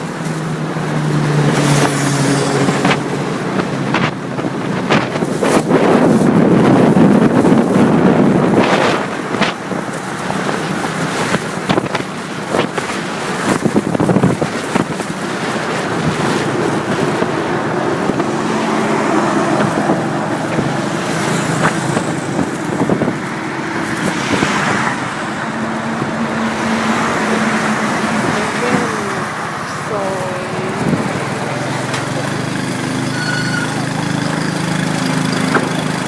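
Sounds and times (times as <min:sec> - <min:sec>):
wind buffeting microphone: 0:00.0 - 0:33.1
motorcycle engine running: 0:00.0 - 0:36.0.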